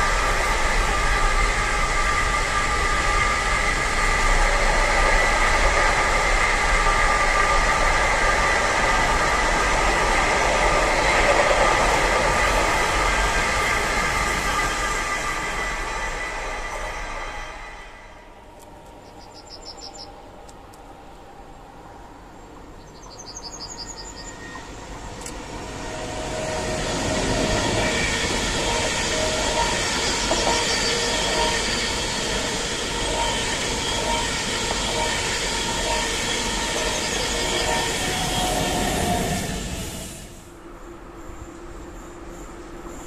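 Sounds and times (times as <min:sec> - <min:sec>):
high-speed train passing: 0:00.0 - 0:43.0.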